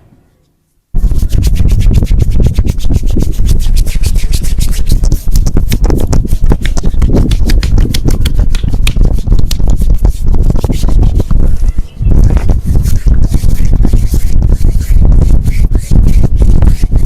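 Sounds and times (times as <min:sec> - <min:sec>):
hands patting and rubbing skin: 0:01.0 - 0:17.0.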